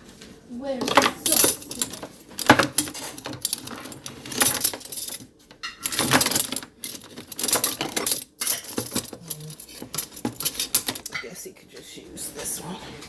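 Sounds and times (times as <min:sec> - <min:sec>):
metal utensils and dishes clinking: 0:00.8 - 0:11.4.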